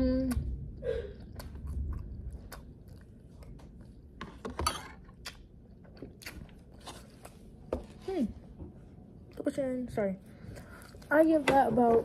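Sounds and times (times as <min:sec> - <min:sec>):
quiet eating sounds: 0:00.0 - 0:12.0.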